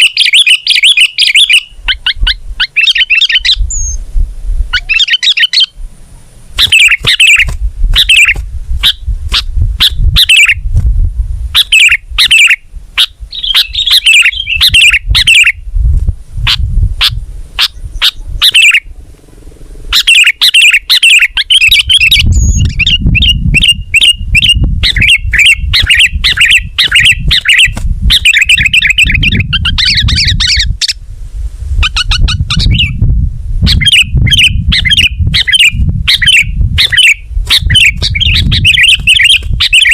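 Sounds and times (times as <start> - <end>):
bird chirping and warbling: 0.0 - 4.0, 4.7 - 5.8, 6.6 - 10.7, 11.5 - 15.6, 16.4 - 19.0, 19.8 - 31.0, 31.8 - 33.0, 33.6 - 39.9.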